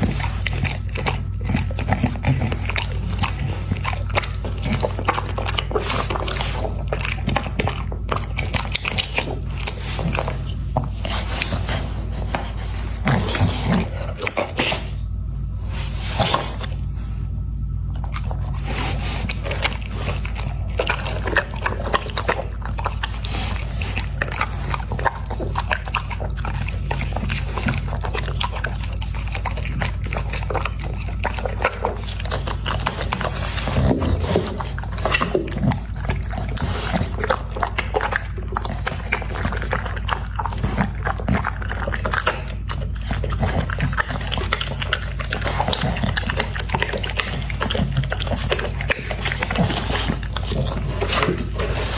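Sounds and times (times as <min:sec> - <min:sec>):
dog chewing and crunching food: 0:00.0 - 0:51.9
steady low hum: 0:00.0 - 0:51.9.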